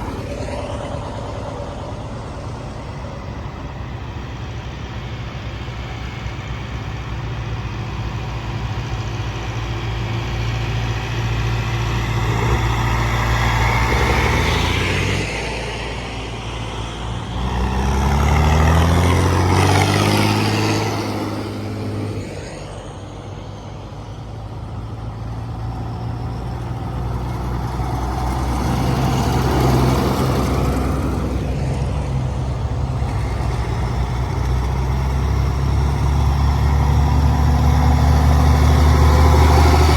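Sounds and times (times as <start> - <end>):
tractors passing by: 0.0 - 39.9.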